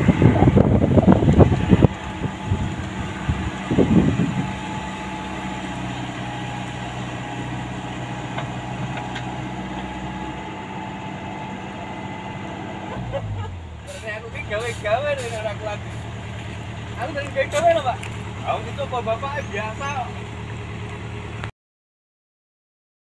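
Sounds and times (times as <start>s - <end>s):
diesel engine running: 0.0s - 21.5s.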